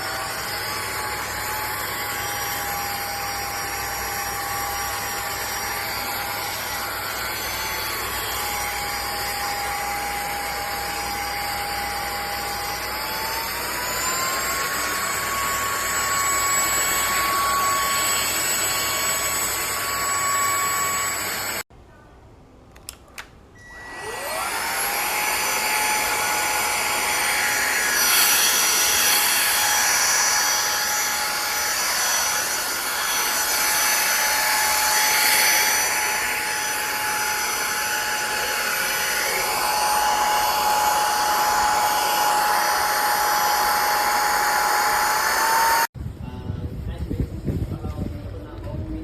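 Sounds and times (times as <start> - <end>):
vacuum cleaner motor whine: 0.0 - 21.6, 23.6 - 45.9.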